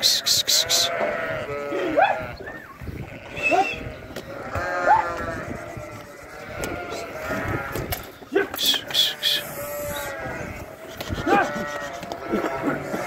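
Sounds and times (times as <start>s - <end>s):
sheep bleating: 0.0s - 13.0s.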